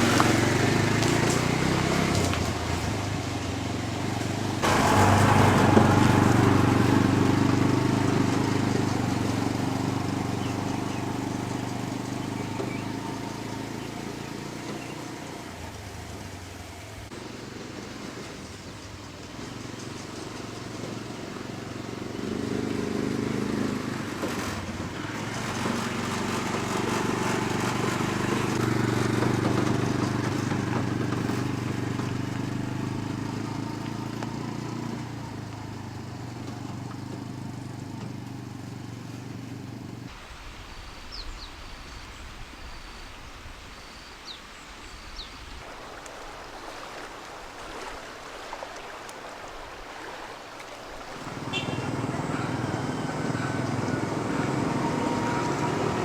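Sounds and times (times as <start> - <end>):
small engine running: 0.0 - 40.1, 51.2 - 56.0
outdoor ambience: 0.0 - 56.0.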